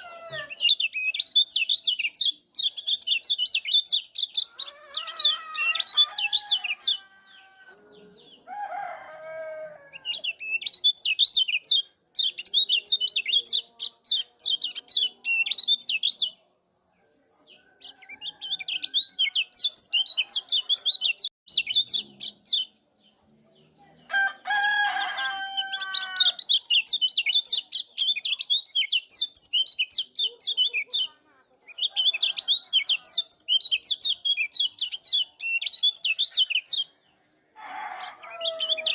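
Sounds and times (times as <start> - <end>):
rapid high chirping bird calls: 0.0 - 8.5, 10.0 - 16.4, 17.4 - 22.9, 25.1 - 37.0, 37.9 - 38.9.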